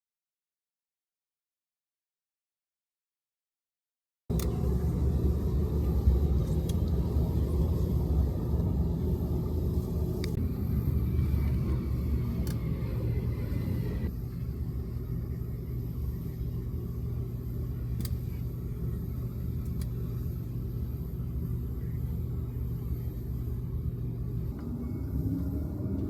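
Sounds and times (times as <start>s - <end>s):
steady low rumble: 4.3s - 26.0s.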